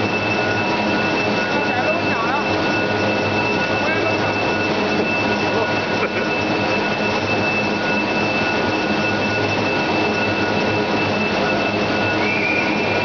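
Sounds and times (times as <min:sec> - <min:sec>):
low hum: 0:00.0 - 0:13.0
thin high whine: 0:00.0 - 0:13.0.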